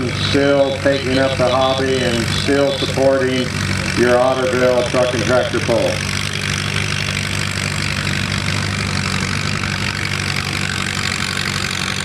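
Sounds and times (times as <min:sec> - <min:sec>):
tractor engine running steadily: 0:00.0 - 0:12.0.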